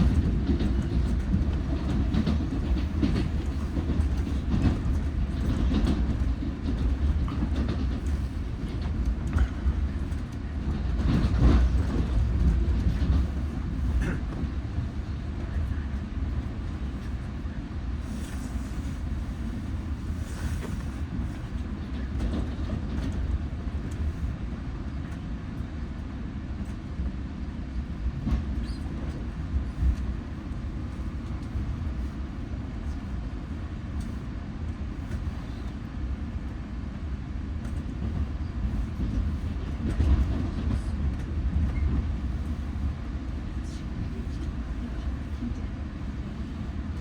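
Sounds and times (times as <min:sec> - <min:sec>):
train rumbling past: 0:00.0 - 0:47.0.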